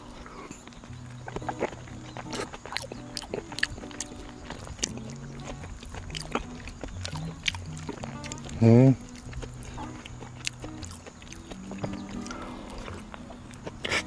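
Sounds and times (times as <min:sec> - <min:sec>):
chewing: 0:00.0 - 0:14.0
soft background music: 0:00.8 - 0:14.0.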